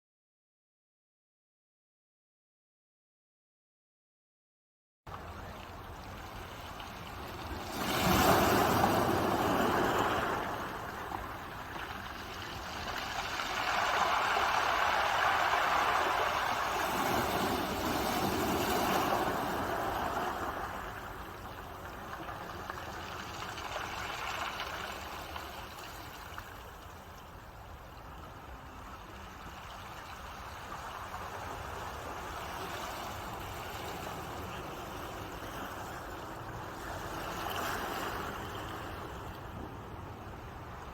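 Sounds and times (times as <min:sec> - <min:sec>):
ocean waves breaking: 0:05.1 - 0:40.9.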